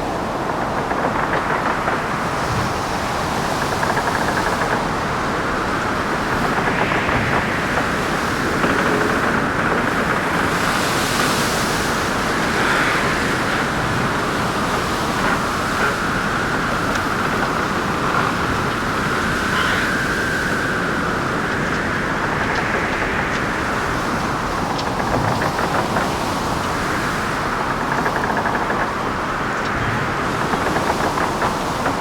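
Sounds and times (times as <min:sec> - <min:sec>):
waves: 0:00.0 - 0:32.0
whistling wind: 0:00.0 - 0:32.0.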